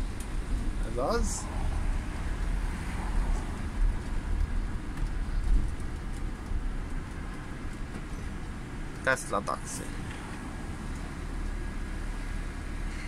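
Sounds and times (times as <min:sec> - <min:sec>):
coach engine rumble: 0:00.0 - 0:13.0
road and traffic noise: 0:00.0 - 0:13.0.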